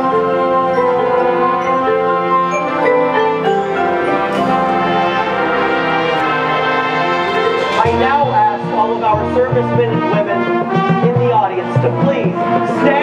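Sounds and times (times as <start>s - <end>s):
brass sustained chords: 0.0s - 13.0s
mallet percussion high notes: 0.0s - 13.0s
marching band playing: 0.0s - 13.0s.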